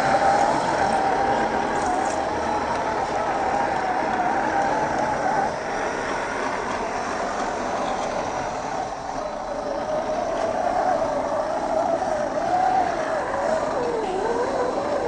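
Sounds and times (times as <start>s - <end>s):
rumbling drivetrain and tyres: 0.0s - 15.0s.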